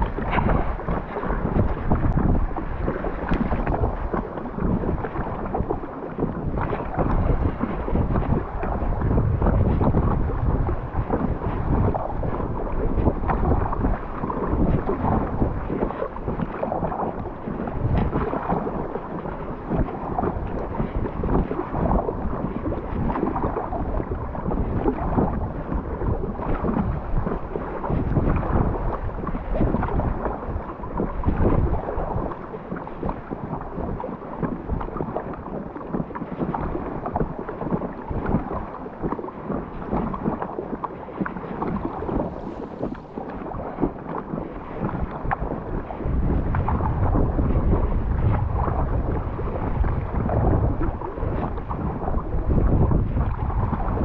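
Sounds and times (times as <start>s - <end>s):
water splashing around kayak: 0.0s - 54.0s
wind buffeting microphone: 0.0s - 54.0s.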